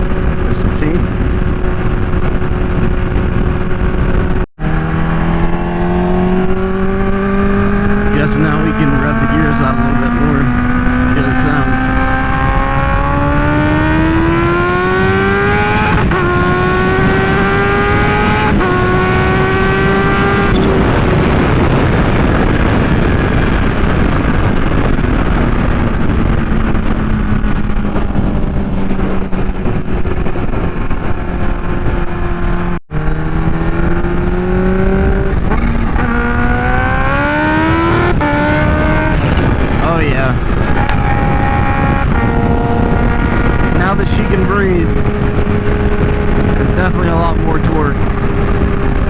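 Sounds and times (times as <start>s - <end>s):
motorcycle engine accelerating: 0.0s - 49.0s
rush of wind: 0.0s - 49.0s.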